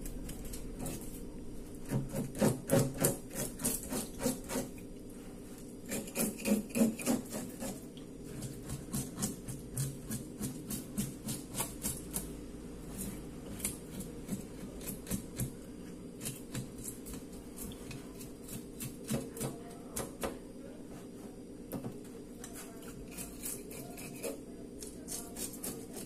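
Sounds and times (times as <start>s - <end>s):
steady low hum: 0.0s - 26.0s
knife scraping fish scales: 0.2s - 15.6s, 16.2s - 19.5s, 22.4s - 26.0s.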